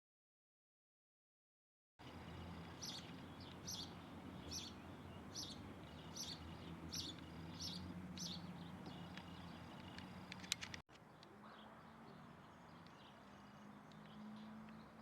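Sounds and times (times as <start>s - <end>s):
bird chirping: 2.0s - 15.0s.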